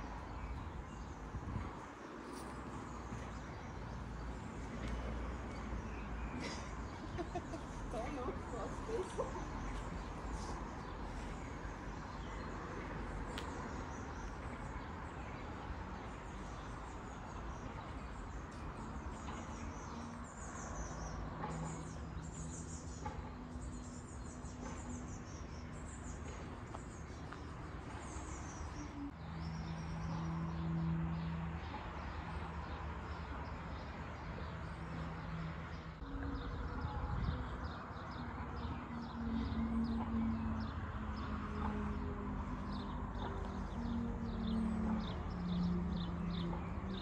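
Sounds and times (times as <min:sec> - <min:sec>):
birds singing: 0:00.0 - 0:47.0.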